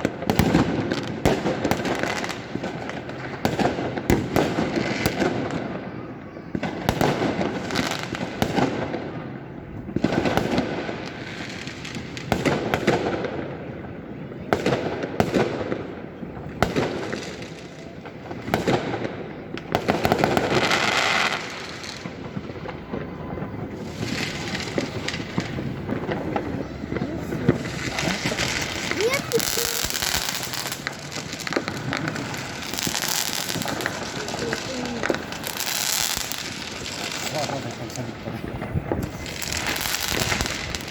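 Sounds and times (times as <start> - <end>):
fireworks crackling: 0.0 - 5.8, 6.5 - 40.9
fireworks bangs: 0.0 - 40.9.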